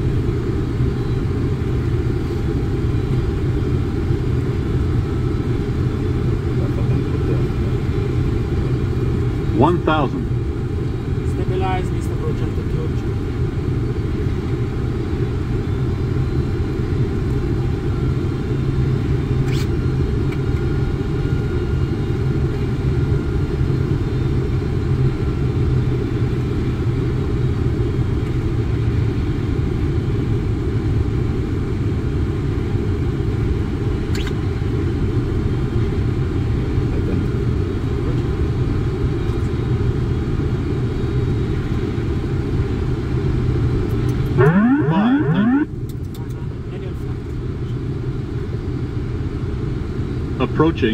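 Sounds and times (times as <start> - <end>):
airplane cockpit engine rumble: 0.0 - 50.9.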